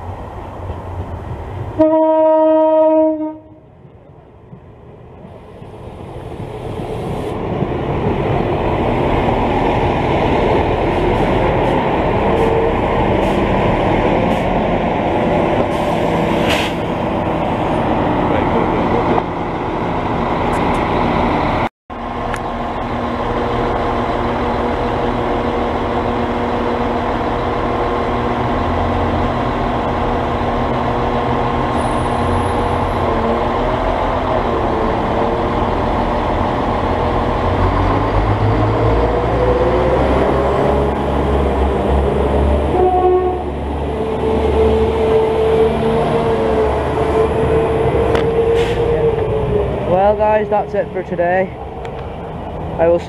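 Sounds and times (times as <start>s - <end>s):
train diesel engines throttling up: 5.2s - 53.0s.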